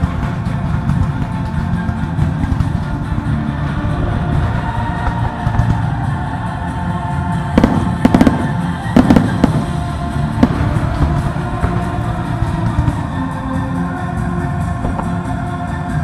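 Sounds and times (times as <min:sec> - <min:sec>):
music: 0:00.0 - 0:16.0.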